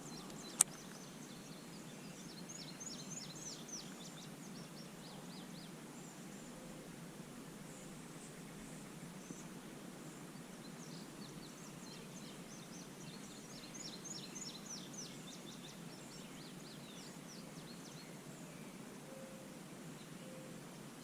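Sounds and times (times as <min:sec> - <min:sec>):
low outdoor hiss: 0:00.0 - 0:21.0.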